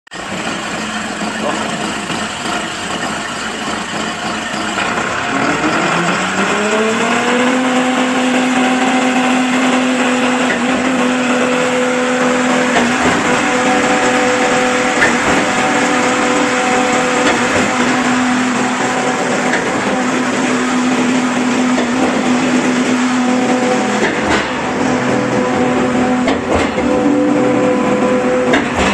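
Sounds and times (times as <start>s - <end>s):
concrete pump engine running: 0.1s - 28.9s.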